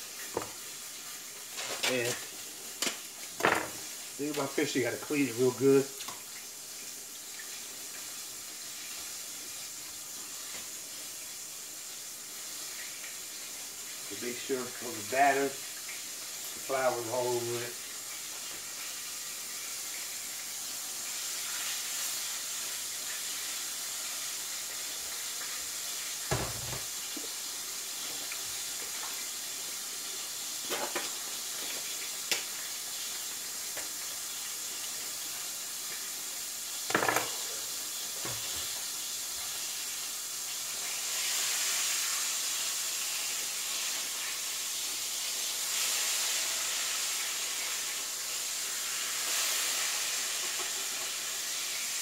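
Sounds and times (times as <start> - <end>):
fish frying in hot oil: 0.0 - 52.0.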